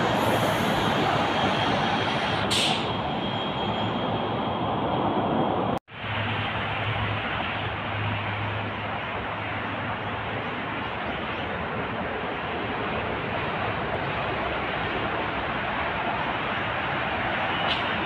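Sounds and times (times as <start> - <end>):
vehicle noise: 0.0 - 18.0.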